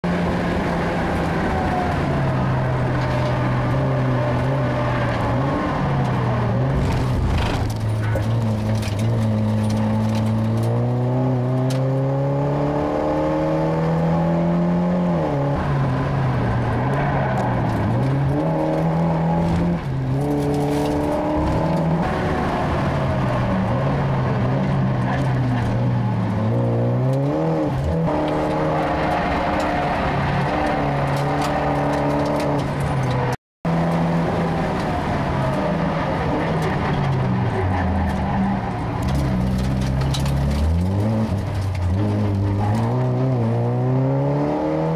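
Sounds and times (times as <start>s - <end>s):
car engine revving: 0.1s - 44.9s.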